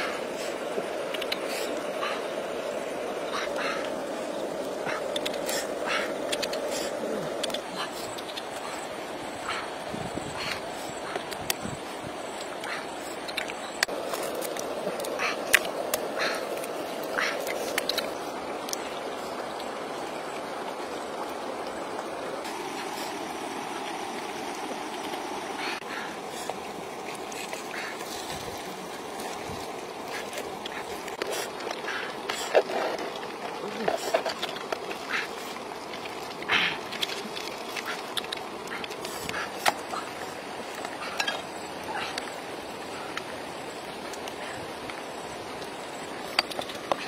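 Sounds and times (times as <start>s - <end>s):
stream flowing: 0.0s - 47.0s.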